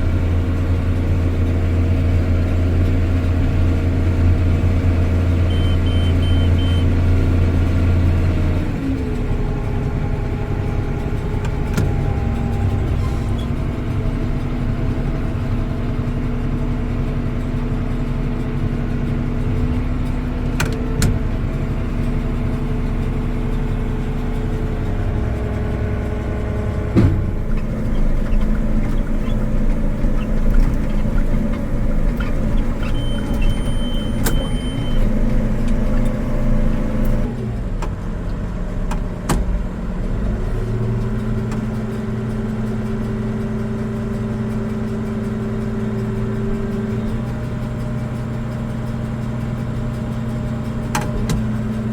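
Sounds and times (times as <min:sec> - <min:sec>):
swather engine and machinery running: 0:00.0 - 0:51.9.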